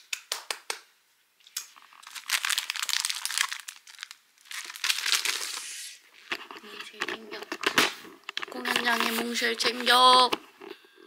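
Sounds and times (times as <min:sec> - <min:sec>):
packaging crinkling and rustling: 0:01.7 - 0:10.7.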